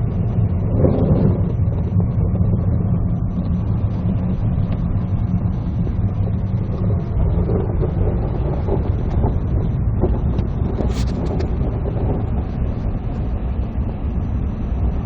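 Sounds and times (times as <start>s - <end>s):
car cabin engine and tyre rumble: 0.0s - 15.0s.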